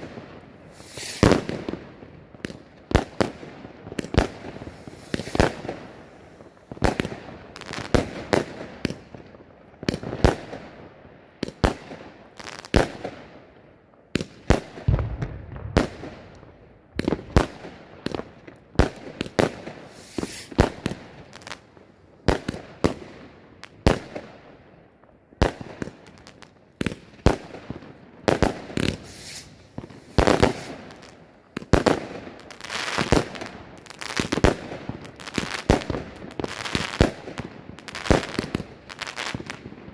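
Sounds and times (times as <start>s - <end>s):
firework bangs and bursts: 0.0s - 13.3s, 14.1s - 24.5s, 25.4s - 39.9s.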